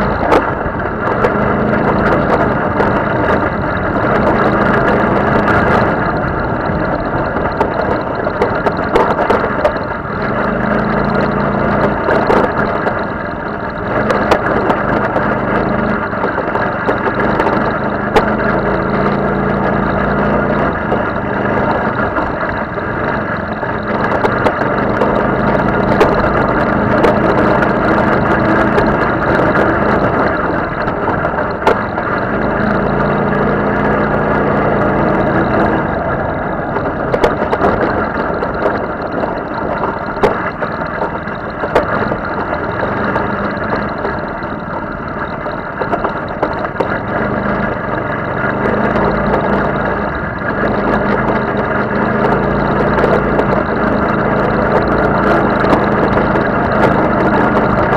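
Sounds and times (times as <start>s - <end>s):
buggy engine running under load: 0.0s - 57.9s
knocks and rattles: 0.0s - 57.9s.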